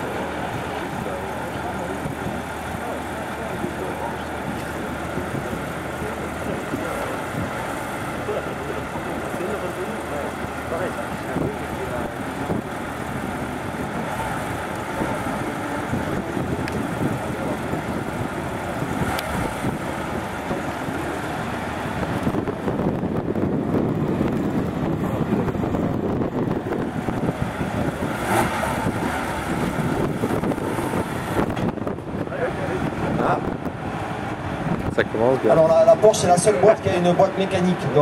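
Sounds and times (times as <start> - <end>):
sports car engines idling: 0.0 - 38.0.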